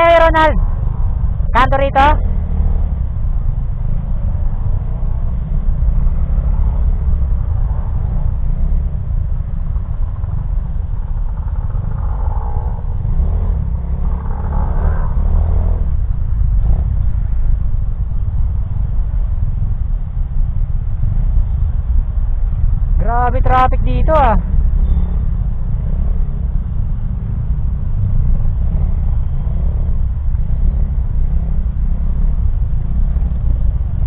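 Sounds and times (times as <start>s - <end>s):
motorcycle engine rumbling: 0.0s - 34.0s
surrounding traffic: 0.0s - 34.0s.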